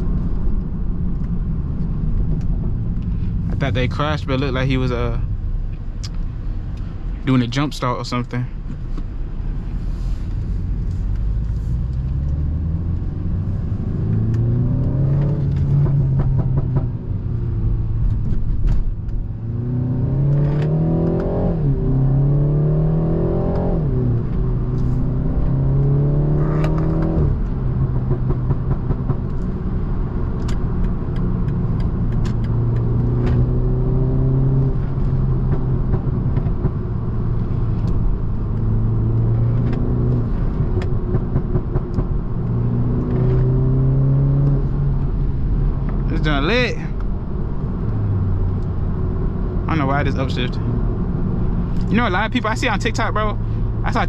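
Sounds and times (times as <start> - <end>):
car engine accelerating: 8.6 - 54.0.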